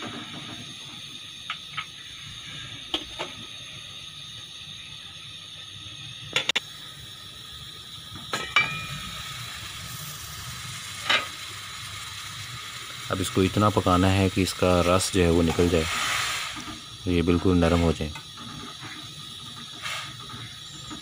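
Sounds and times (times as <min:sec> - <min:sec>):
hiss from a wok on the stove: 0:00.0 - 0:21.0.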